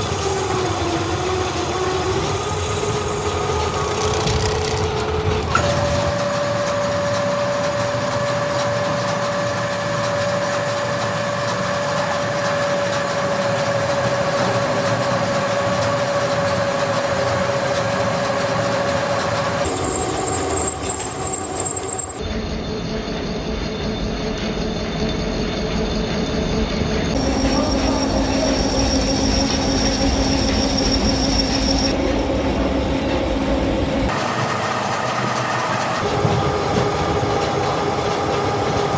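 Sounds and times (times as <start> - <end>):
factory machinery drone: 0.0 - 38.9
machine whine: 0.0 - 38.9.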